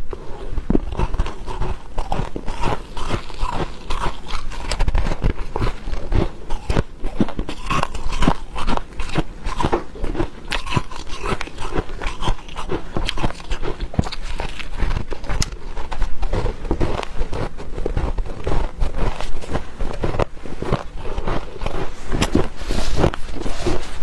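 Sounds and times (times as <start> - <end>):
crunching frost between teeth: 0.0 - 24.0.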